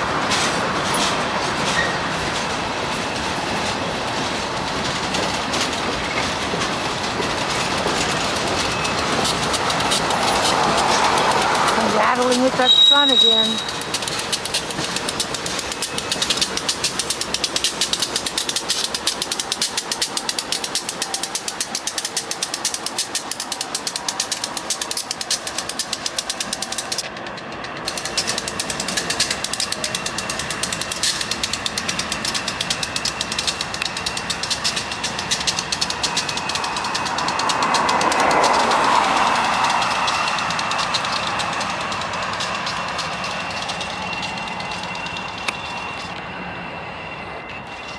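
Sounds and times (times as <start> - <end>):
train wheels clattering on rails: 0.0 - 47.9.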